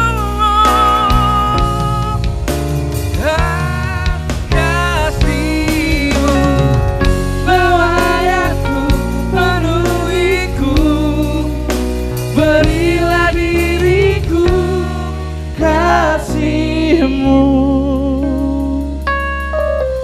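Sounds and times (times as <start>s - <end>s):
man and woman singing duet: 0.0s - 2.4s, 3.1s - 19.1s
live band with guitar and keyboard: 0.0s - 20.0s.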